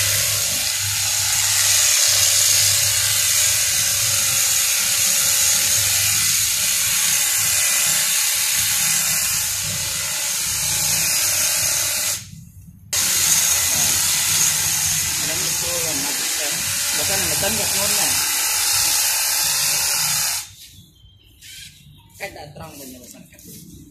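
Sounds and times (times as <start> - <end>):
hedge trimmer cutting shrub: 0.0 - 12.2, 13.0 - 20.5.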